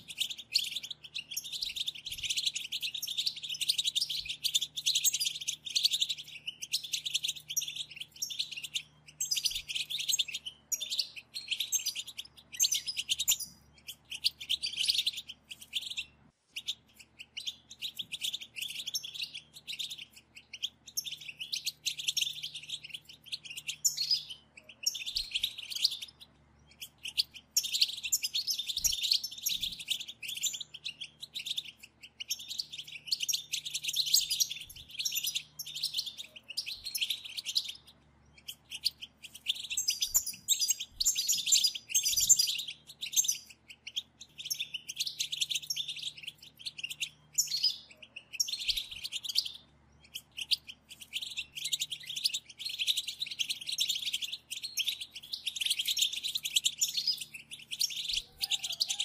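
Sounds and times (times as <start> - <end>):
goldfinches twittering: 0.0 - 59.0.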